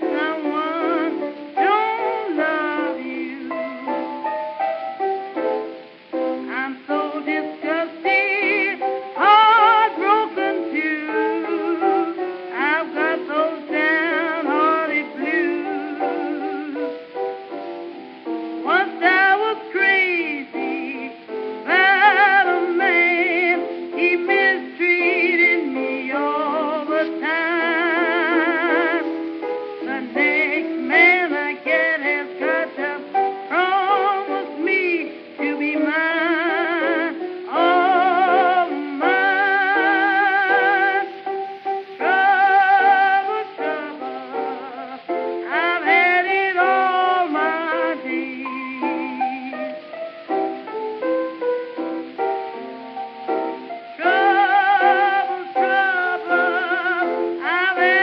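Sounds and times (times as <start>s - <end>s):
woman singing blues: 0.0s - 4.1s, 5.9s - 17.1s, 18.6s - 49.9s, 53.4s - 58.0s
instrumental accompaniment: 0.0s - 58.0s.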